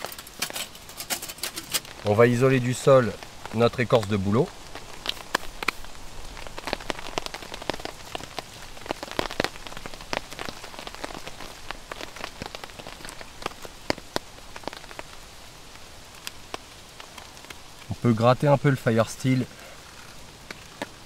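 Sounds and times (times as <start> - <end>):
rain on tent fabric: 0.0 - 21.0.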